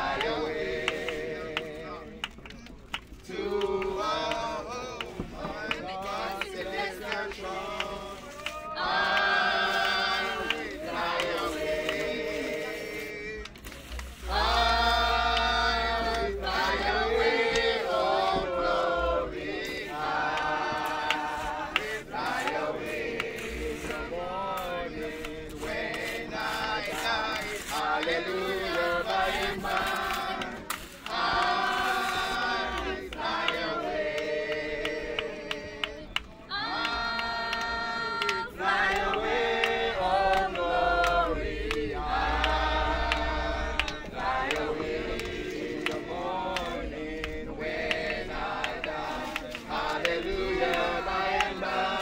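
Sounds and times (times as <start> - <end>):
group of voices singing: 0.0 - 52.0.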